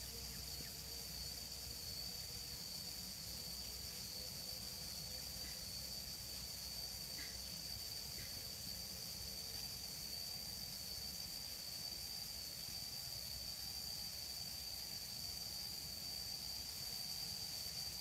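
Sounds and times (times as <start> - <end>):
faint hiss: 0.0 - 18.0
high-pitched insect trill: 0.0 - 18.0.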